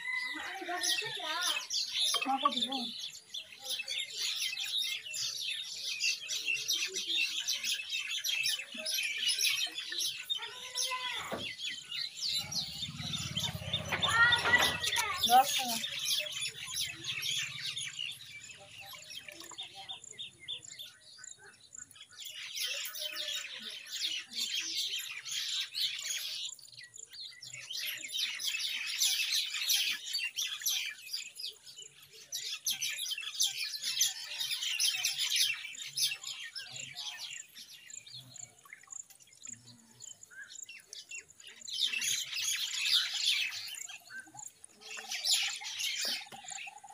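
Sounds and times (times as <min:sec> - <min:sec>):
myna chirping calls: 0:00.0 - 0:46.9.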